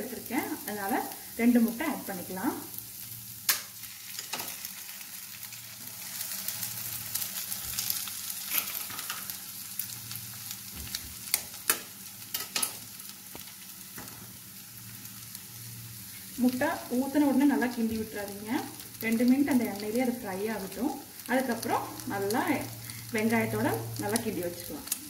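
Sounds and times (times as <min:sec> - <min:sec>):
onions sizzling in oil: 0:00.0 - 0:25.0.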